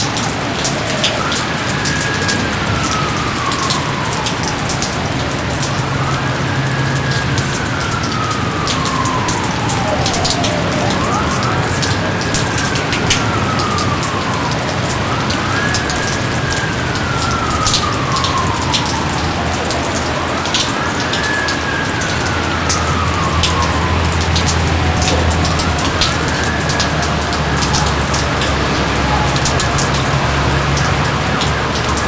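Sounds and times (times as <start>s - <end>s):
faint wailing siren tone: 0.0s - 32.0s
heavy rain pattering: 0.0s - 32.0s.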